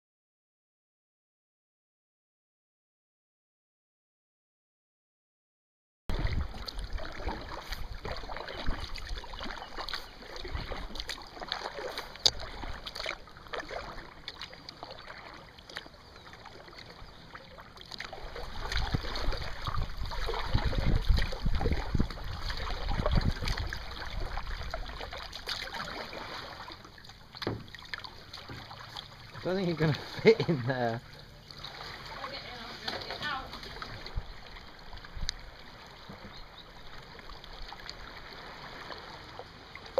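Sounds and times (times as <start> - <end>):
paddle blades splashing in water: 6.1 - 39.9
water lapping at hull: 6.1 - 39.9.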